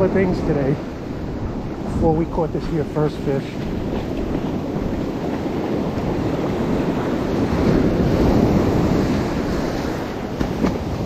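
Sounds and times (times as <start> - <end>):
surf washing in foamy water: 0.0 - 11.0
wind buffeting microphone: 0.0 - 11.0.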